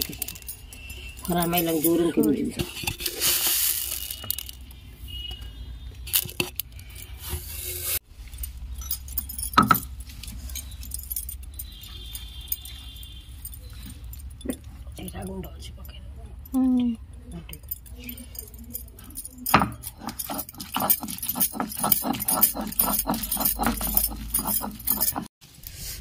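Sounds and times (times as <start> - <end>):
small objects jingling and clinking: 0.0 - 5.4, 6.0 - 25.3.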